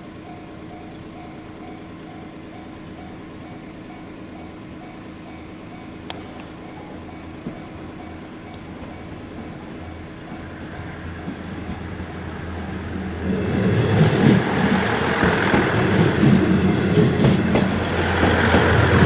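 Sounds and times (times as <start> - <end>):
diesel railcar rumble: 0.0 - 19.0
level crossing warning bell: 0.0 - 19.0.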